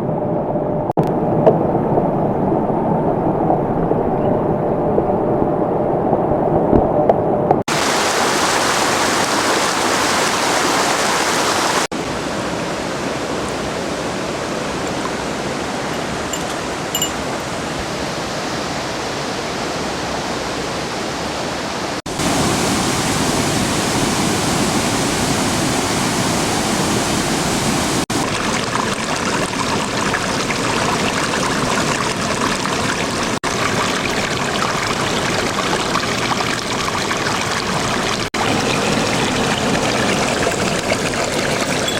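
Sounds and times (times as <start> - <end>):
stream running over rocks: 7.7 - 41.9.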